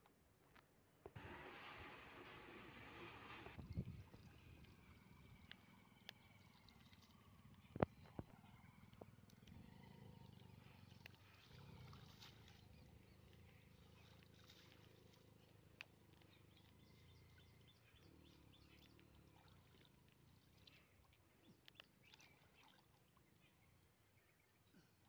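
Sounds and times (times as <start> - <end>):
water sloshing and splashing: 1.2 - 8.3, 10.3 - 23.8
low steady rumble: 1.2 - 21.7.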